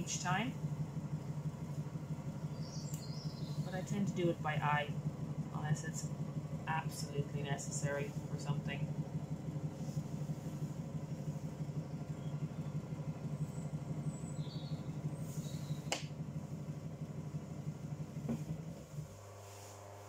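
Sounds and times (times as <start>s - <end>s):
potter's wheel motor humming: 0.0s - 20.0s.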